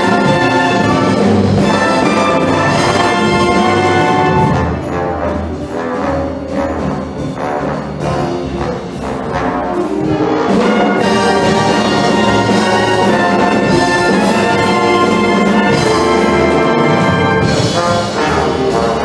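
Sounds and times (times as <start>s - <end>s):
wind band playing: 0.0s - 19.0s.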